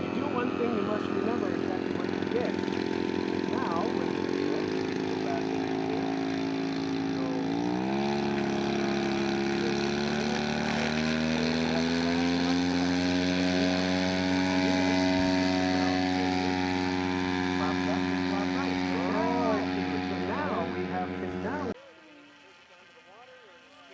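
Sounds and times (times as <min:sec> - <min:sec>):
model airplane engine running: 0:00.0 - 0:23.9.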